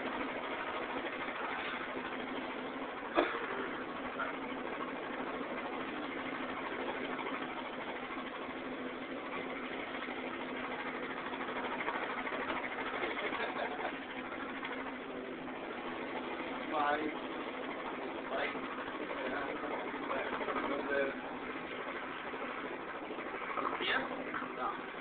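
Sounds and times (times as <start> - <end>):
steady mechanical drone: 0.0 - 25.0.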